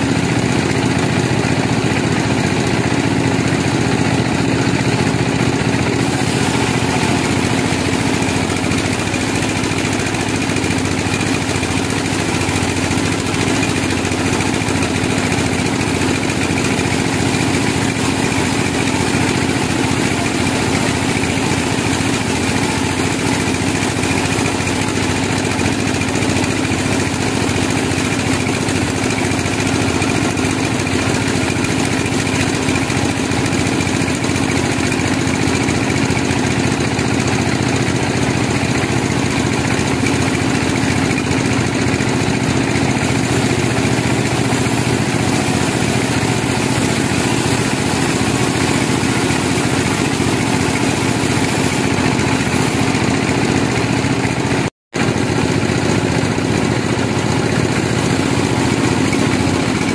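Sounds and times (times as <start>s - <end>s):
band saw cutting log: 4.4s - 59.9s.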